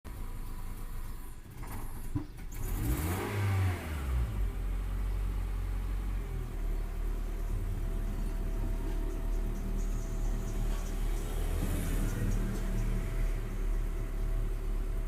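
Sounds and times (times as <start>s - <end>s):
car engine revving and idling: 0.1s - 15.0s.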